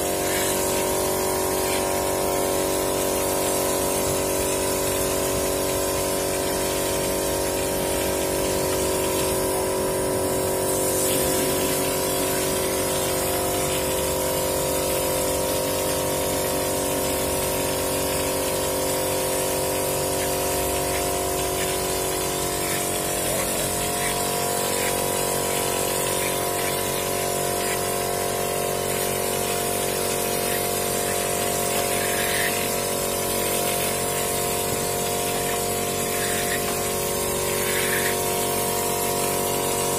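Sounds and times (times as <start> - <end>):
air compressor humming: 0.0 - 39.9
spray gun hissing: 0.0 - 39.9.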